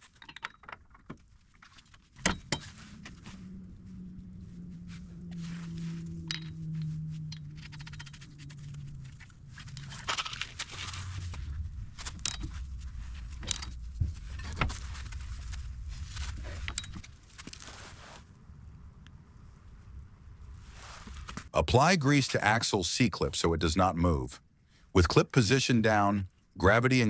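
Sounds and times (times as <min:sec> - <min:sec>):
low steady hum: 0:02.2 - 0:27.0.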